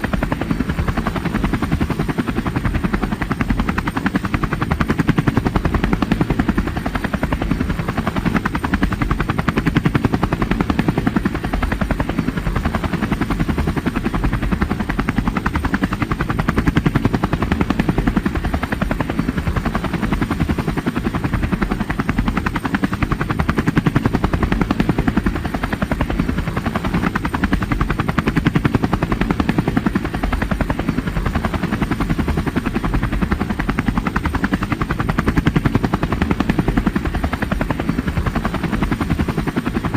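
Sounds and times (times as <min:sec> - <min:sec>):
helicopter rotor chopping: 0:00.0 - 0:39.9
helicopter turbine noise: 0:00.0 - 0:39.9.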